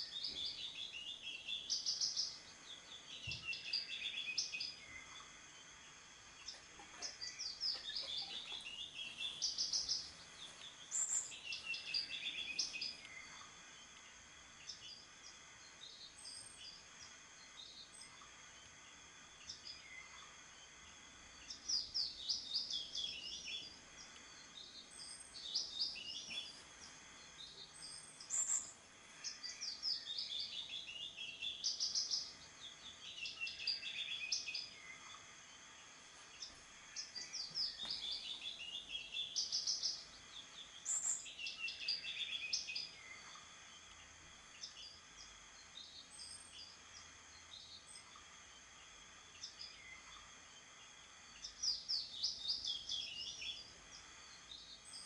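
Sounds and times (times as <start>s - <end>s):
faint steady hiss: 0.0s - 55.0s
songbird singing falling phrases: 0.0s - 55.0s.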